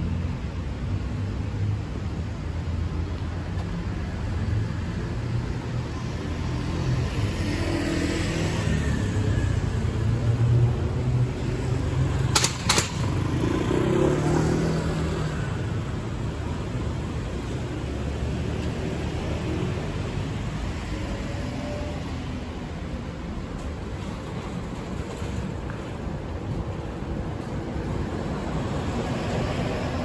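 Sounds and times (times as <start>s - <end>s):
motor vehicles passing: 0.0s - 30.0s.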